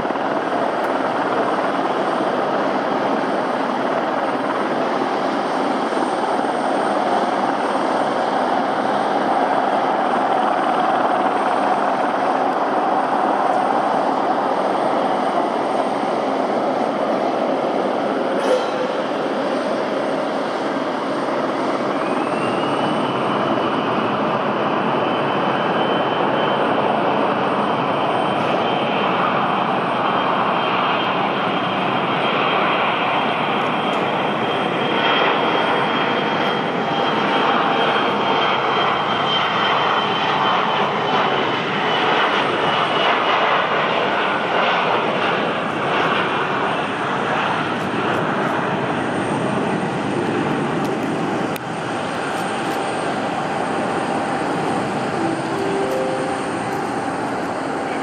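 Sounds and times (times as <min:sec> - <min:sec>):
jet engine whine: 0:00.0 - 0:58.0
loud rush of jet noise: 0:00.0 - 0:58.0.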